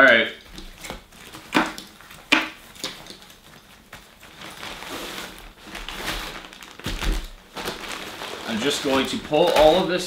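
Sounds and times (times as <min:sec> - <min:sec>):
dry bag rustling: 0:00.0 - 0:10.0
plastic bags crinkling: 0:00.0 - 0:10.0.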